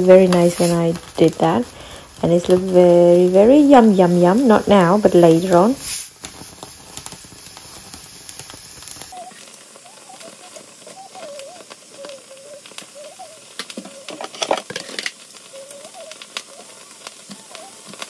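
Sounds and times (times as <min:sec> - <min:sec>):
gas flame hissing: 0:00.0 - 0:18.0.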